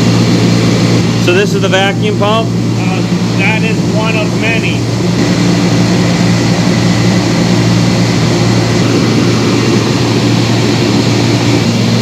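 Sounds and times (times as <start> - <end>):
vacuum pump droning: 0.0 - 12.0.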